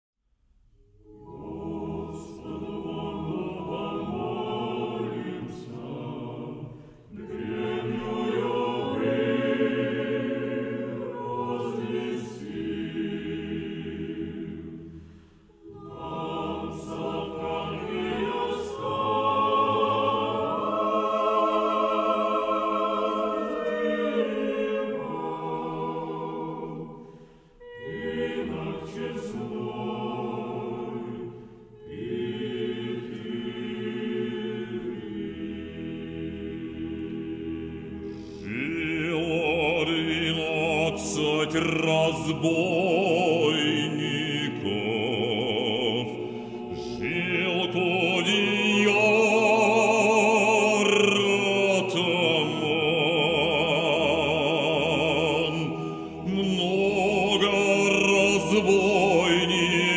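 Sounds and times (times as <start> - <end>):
choir singing: 1.0 - 59.9.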